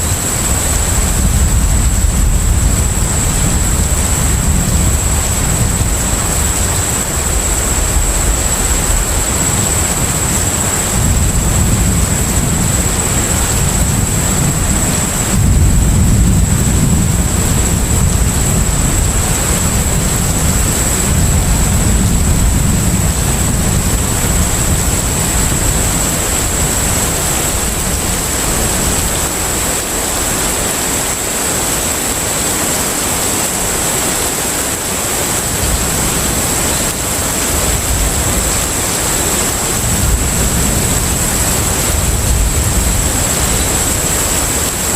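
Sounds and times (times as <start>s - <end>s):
sea noise: 0.0s - 44.9s
ship engine rumble: 0.0s - 44.9s.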